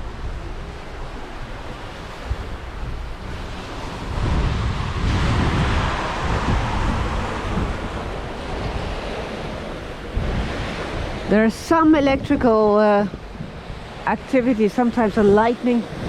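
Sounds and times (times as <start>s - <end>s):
sea rushing along hull: 0.0s - 16.0s
wind buffeting microphone: 0.0s - 16.0s.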